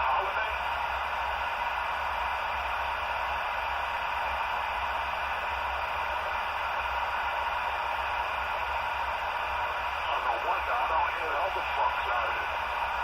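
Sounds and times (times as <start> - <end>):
radio static hiss: 0.0 - 2.9, 5.4 - 13.0.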